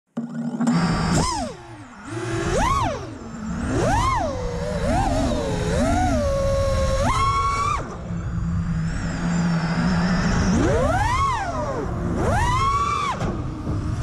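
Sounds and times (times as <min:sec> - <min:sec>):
drone motors whining: 0:00.1 - 0:14.0.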